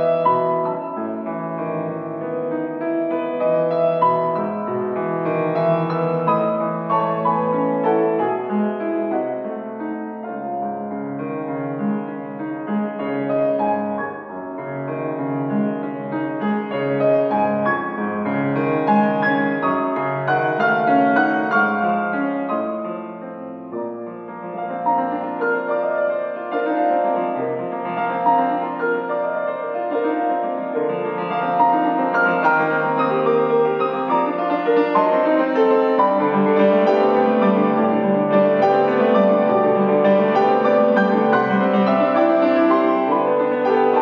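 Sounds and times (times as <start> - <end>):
solo grand piano: 0.0 - 44.0.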